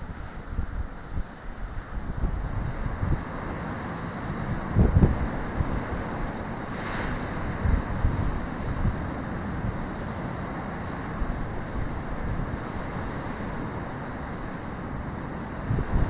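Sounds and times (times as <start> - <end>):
wind buffeting microphone: 0.0 - 16.0
surf breaking over rocks: 2.1 - 16.0.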